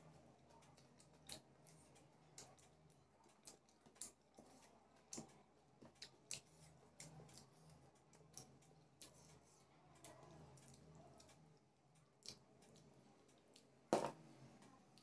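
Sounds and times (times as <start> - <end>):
faint low hum: 0.0 - 15.0
wet eating clicks and smacks: 0.4 - 13.8.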